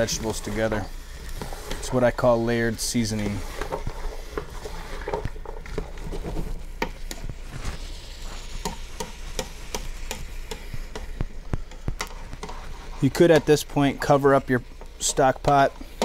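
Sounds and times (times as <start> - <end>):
spoon scraping a pot: 0.0 - 13.8
food sizzling: 0.0 - 16.0.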